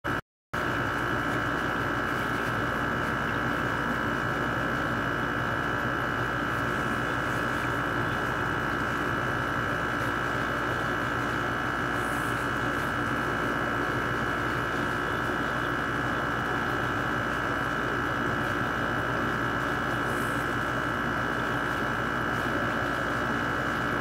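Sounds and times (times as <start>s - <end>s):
air conditioner hum: 0.1s - 24.0s
high-pitched whine: 0.1s - 24.0s.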